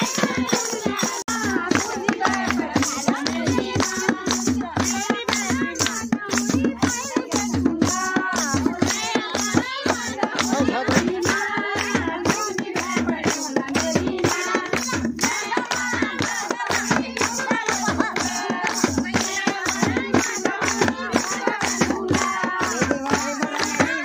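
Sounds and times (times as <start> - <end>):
rhythmic hand clapping: 0.0 - 24.0
women singing folk song: 0.0 - 24.0.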